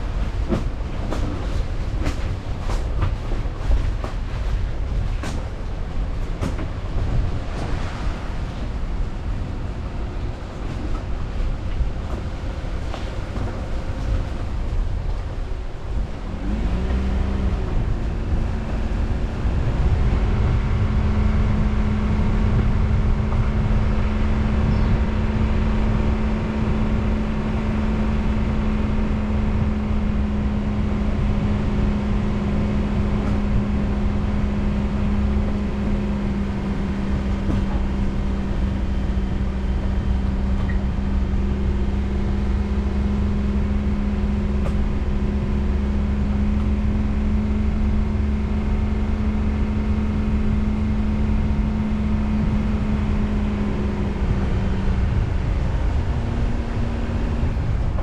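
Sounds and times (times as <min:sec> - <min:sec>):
road and tyre noise: 0:00.0 - 0:58.0
car engine accelerating: 0:03.6 - 0:58.0.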